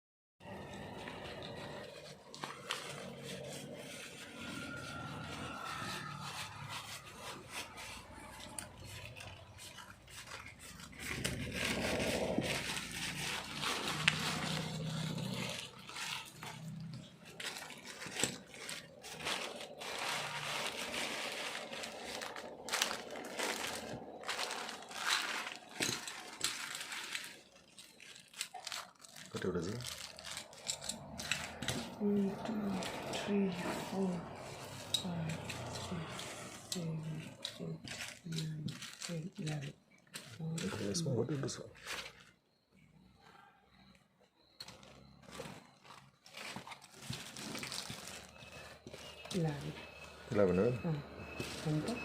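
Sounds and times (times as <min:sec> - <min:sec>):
packaging crinkling and crackling: 0:00.4 - 0:33.3, 0:34.0 - 0:42.6, 0:44.4 - 0:52.0.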